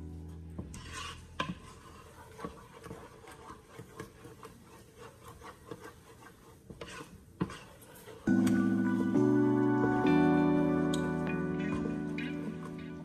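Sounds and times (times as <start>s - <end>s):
wooden spoon scraping pot: 0.3s - 9.7s, 10.6s - 13.0s.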